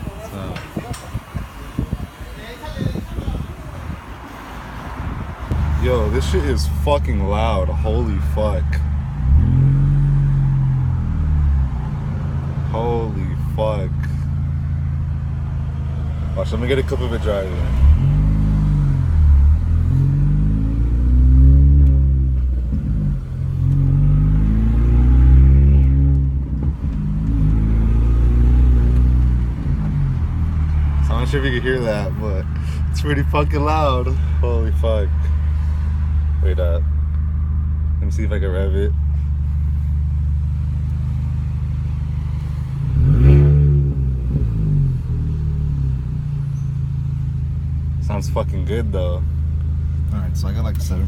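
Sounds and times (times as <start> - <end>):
car engine accelerating hard: 5.2 - 36.9, 38.2 - 51.0.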